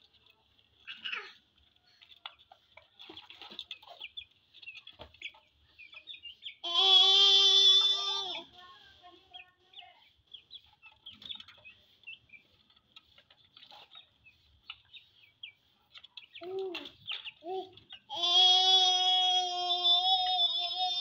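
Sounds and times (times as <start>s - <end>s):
chickens clucking and chirping: 0.0s - 21.0s.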